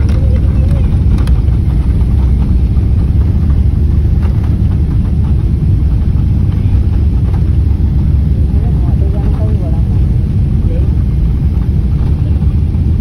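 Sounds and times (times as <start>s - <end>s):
jet engine rumble: 0.0s - 13.0s
wheels rolling on runway: 0.0s - 13.0s.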